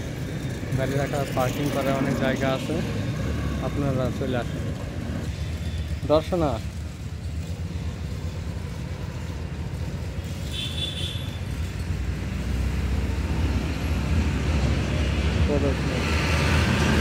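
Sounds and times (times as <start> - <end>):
road traffic engine rumble: 0.0 - 17.0.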